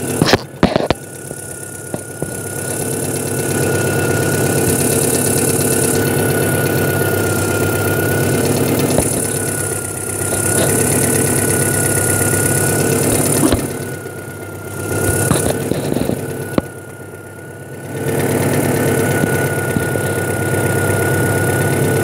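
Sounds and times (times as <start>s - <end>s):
car engine idling: 0.0s - 22.0s
thin high whine: 0.0s - 22.0s.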